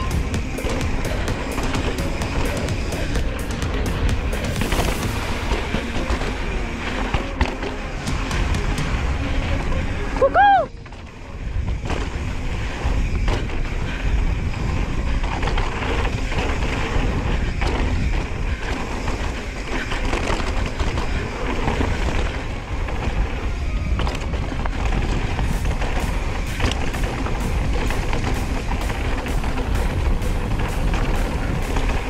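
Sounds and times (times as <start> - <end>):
mountain bike rattling over dirt: 0.0 - 32.0
wind rumbling on microphone: 0.0 - 32.0.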